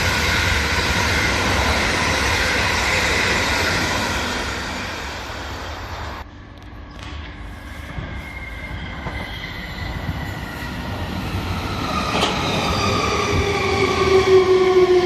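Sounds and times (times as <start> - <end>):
electric train slowing: 0.0 - 6.3, 7.0 - 15.0.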